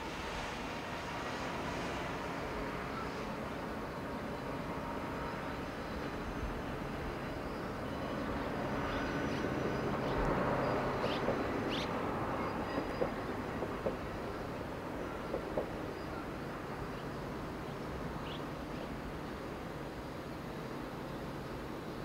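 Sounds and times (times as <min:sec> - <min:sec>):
distant train rumble: 0:00.0 - 0:22.0.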